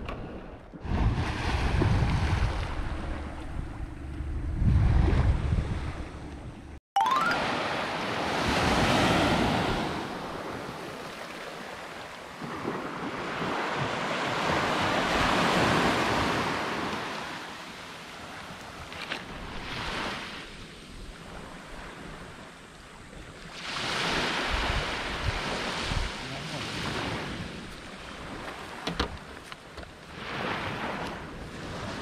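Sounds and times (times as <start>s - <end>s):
small waves breaking on beach: 0.0s - 3.3s, 7.0s - 32.0s.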